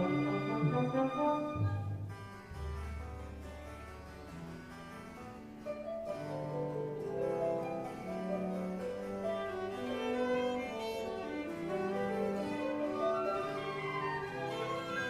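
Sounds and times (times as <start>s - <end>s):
chamber ensemble playing: 0.0s - 3.4s, 5.6s - 15.0s.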